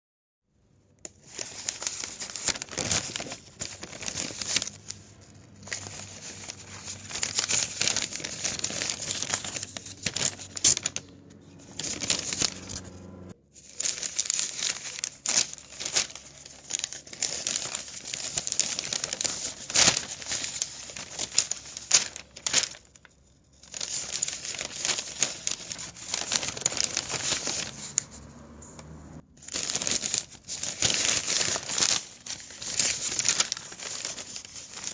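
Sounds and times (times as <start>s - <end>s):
newspaper rustling and crinkling: 1.1s - 12.9s, 13.6s - 28.8s, 29.4s - 34.9s.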